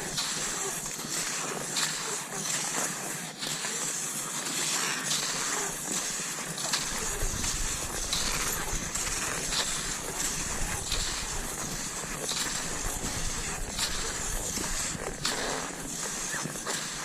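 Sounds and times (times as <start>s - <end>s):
skis crunching over snow: 0.0s - 17.0s.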